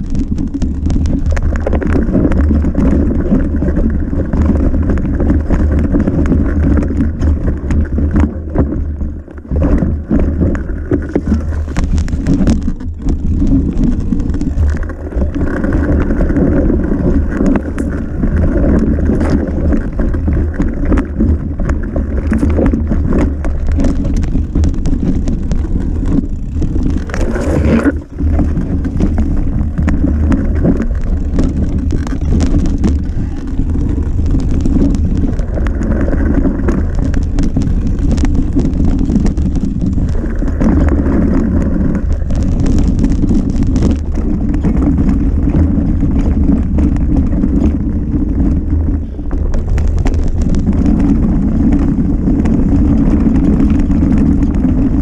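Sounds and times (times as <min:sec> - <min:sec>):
bike knocking and rattling: 0:00.0 - 0:55.0
bike tyres rumbling: 0:00.0 - 0:55.0
wind rushing on microphone: 0:00.0 - 0:55.0.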